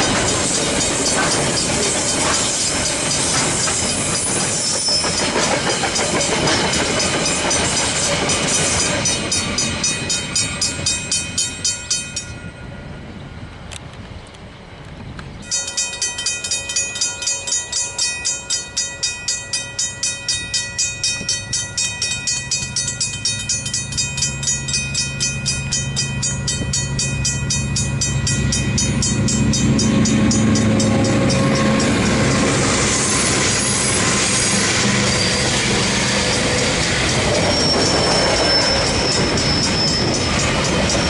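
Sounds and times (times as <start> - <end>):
level-crossing bells ringing: 0.0 - 13.0, 15.4 - 41.0
diesel train rumbling: 0.0 - 41.0.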